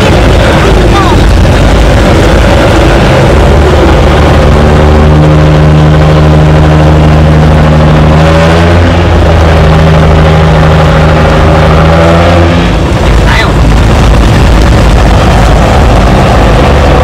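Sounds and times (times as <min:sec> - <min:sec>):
boat diesel engine drone: 0:00.0 - 0:17.0.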